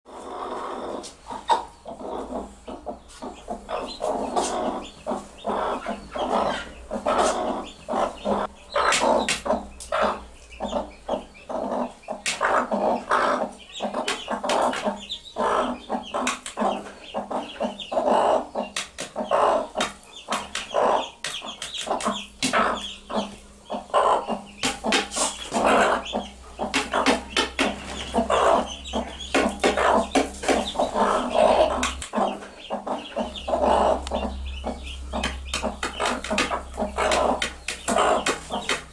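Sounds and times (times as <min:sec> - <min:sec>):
hens clucking: 0:00.1 - 0:38.9.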